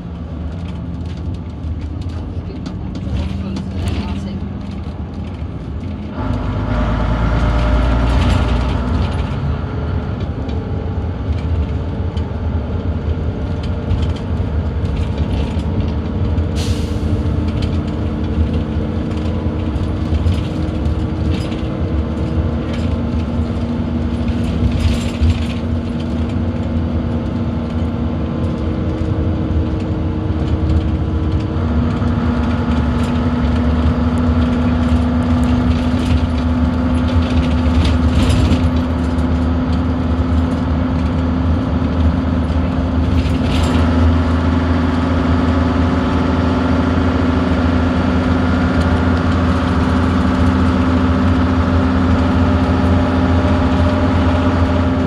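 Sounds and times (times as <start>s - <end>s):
bus body rattling: 0.0s - 55.0s
bus diesel engine under load: 0.0s - 55.0s.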